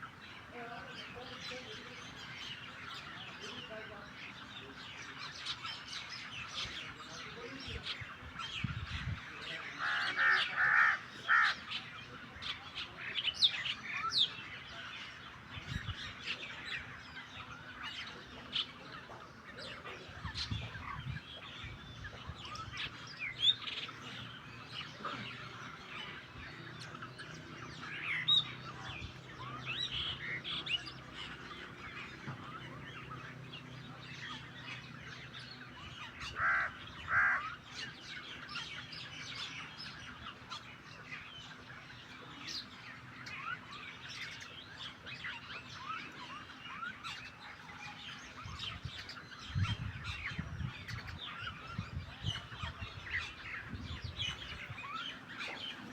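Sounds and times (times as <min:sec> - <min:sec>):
birds chirping and chattering: 0:00.0 - 0:55.9
loud harsh bird calls: 0:00.0 - 0:55.9.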